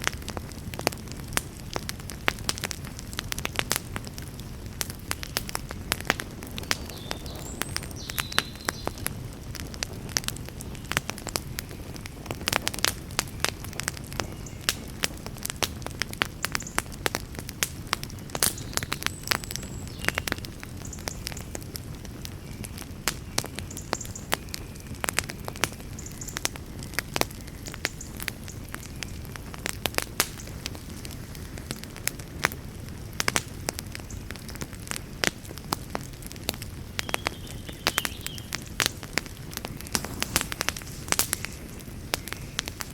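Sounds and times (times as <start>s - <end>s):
campfire crackling and popping: 0.0s - 42.9s
low rush of burning wood: 0.0s - 42.9s.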